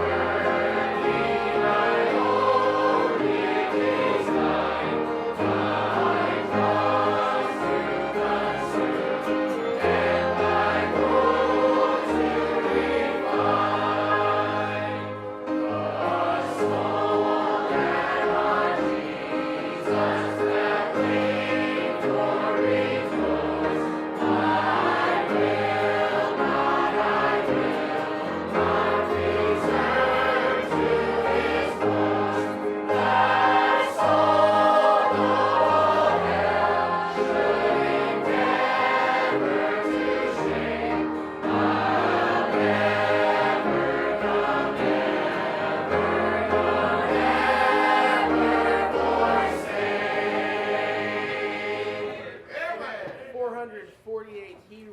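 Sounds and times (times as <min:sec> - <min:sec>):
instrumental accompaniment: 0:00.0 - 0:52.5
choir singing a hymn: 0:00.0 - 0:53.2.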